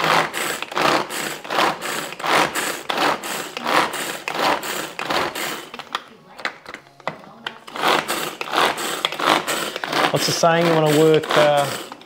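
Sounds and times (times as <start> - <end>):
food chopper blades whirring: 0.0 - 12.0.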